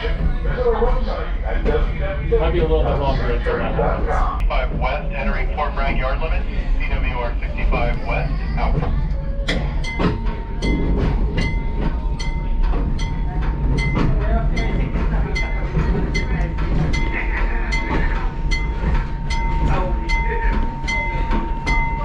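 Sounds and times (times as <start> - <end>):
railcar rumbling on track: 0.0 - 22.0.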